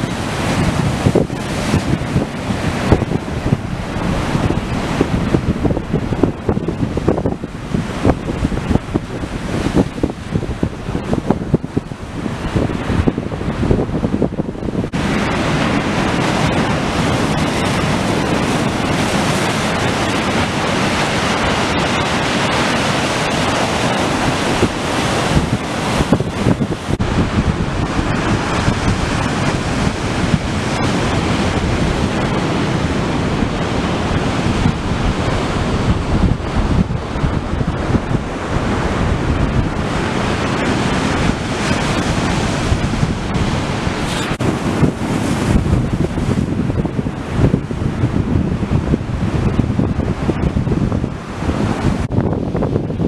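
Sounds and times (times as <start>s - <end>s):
surf pounding the shore: 0.0s - 53.0s
wind buffeting microphone: 0.0s - 53.0s.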